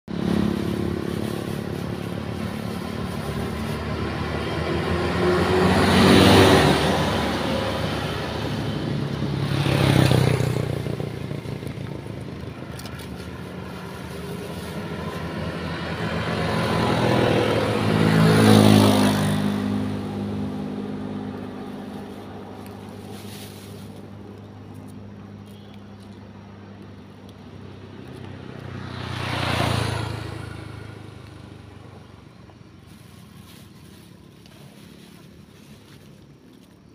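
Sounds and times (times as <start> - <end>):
vehicles passing on road: 0.0 - 36.9.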